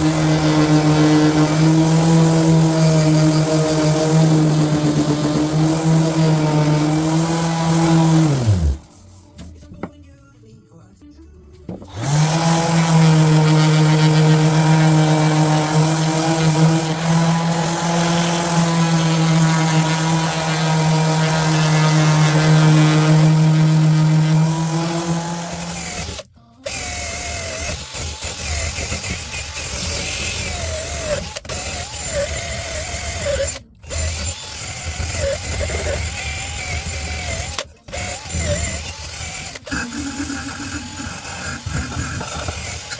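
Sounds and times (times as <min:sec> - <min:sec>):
power tool motor whine: 0:00.0 - 0:09.0, 0:11.9 - 0:42.9.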